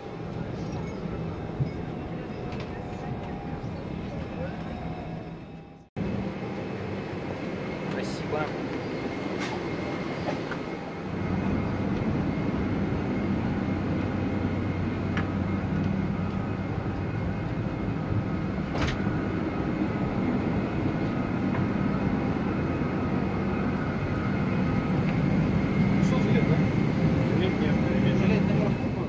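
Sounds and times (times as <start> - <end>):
aircraft mechanical drone: 0.0 - 29.0.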